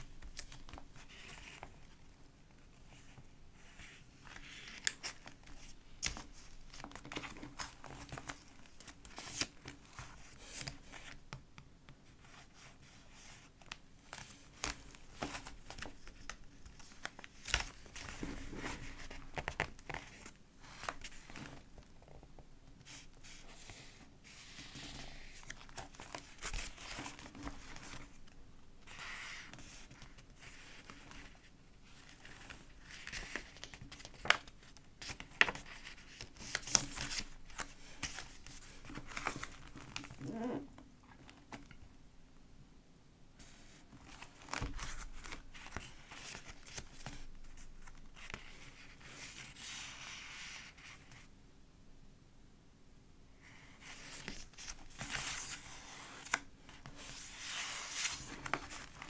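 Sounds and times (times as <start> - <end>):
paper crinkling and rustling: 0.0 - 2.0, 2.9 - 11.2, 12.2 - 22.0, 22.8 - 40.5, 43.4 - 51.3, 53.5 - 59.0.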